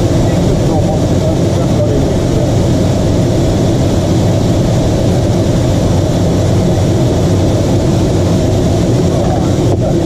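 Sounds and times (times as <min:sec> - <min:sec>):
jet engine cockpit noise: 0:00.0 - 0:10.0.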